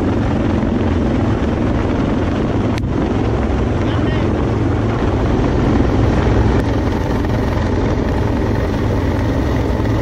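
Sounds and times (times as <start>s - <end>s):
helicopter rotor beat: 0.0s - 10.0s
turbine engine whine: 0.0s - 10.0s.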